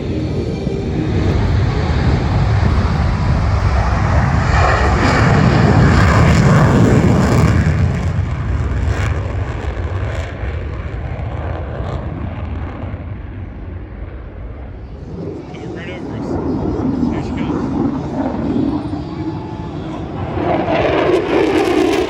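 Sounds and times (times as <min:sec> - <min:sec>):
jet flying past: 0:00.0 - 0:22.0.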